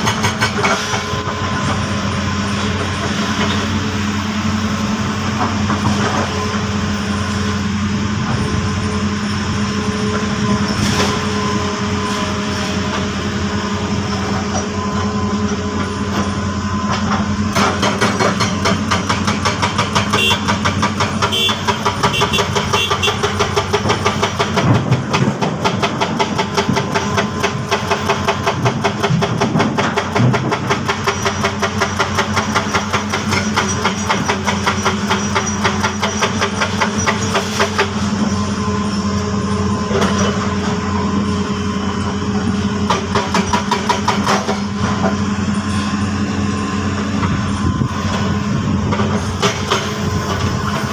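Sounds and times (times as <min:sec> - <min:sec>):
diesel machinery humming: 0:00.0 - 0:50.9.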